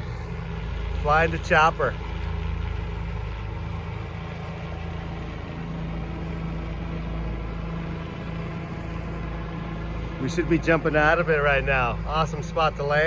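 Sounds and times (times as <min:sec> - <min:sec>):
helicopter flying: 0:00.0 - 0:13.0.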